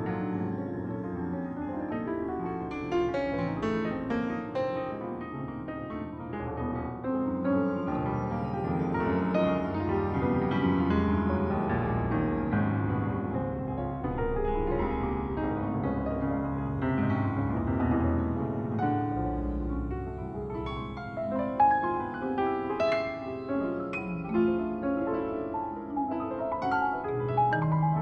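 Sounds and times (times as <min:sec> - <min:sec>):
layered piano-like notes: 0:00.0 - 0:28.0.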